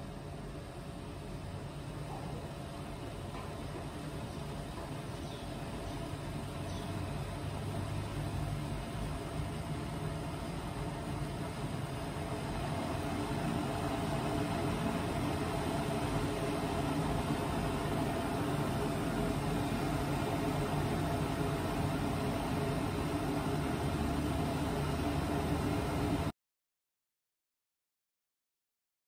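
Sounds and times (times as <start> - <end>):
saucepan of water heating: 0.0 - 26.3.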